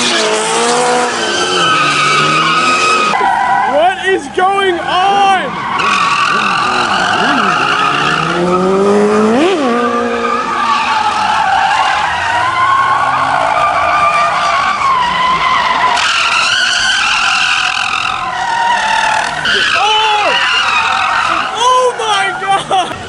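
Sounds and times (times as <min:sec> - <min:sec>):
car engine revving: 0:00.0 - 0:03.6, 0:05.4 - 0:21.8
car tyres squealing: 0:00.0 - 0:23.0.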